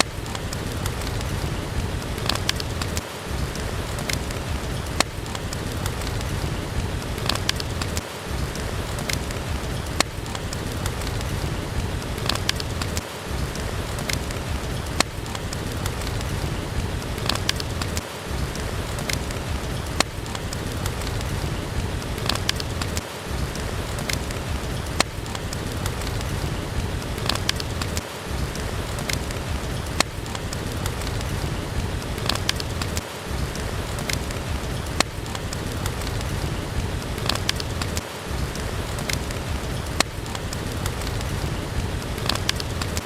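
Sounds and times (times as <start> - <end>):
heavy rain falling: 0.0 - 43.0
wood fire crackling: 0.0 - 43.0.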